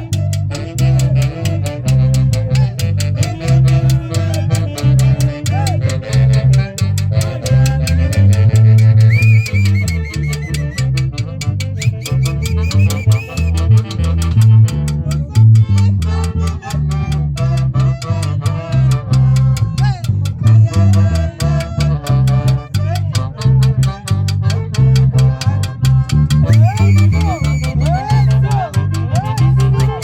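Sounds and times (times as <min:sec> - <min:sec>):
guitar: 0:00.0 - 0:30.0
pulsing bass line: 0:00.0 - 0:30.0
steady percussive beat: 0:00.0 - 0:30.0.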